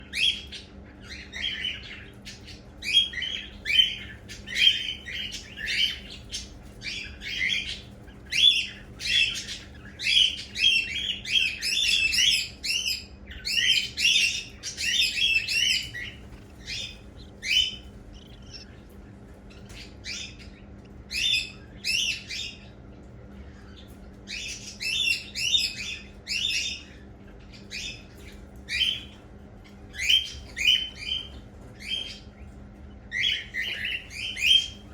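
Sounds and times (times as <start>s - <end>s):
cockatiel chicks chirping: 0.0s - 34.9s.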